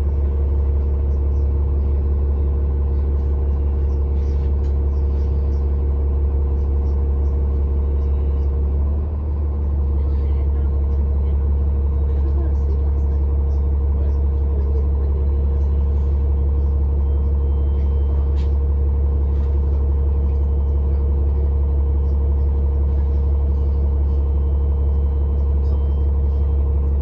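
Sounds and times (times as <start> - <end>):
bus engine drone: 0.0 - 27.0.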